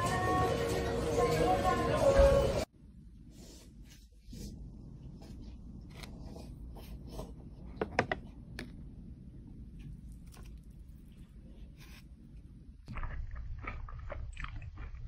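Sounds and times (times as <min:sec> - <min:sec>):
low room rumble: 0:00.4 - 0:15.0.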